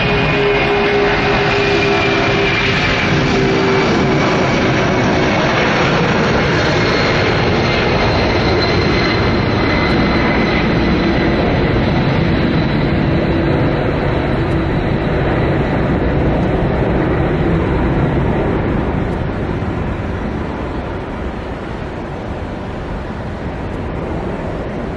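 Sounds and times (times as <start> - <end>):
high engine whine falling in pitch: 0.0 - 22.8
aircraft engines rumbling: 0.0 - 24.9.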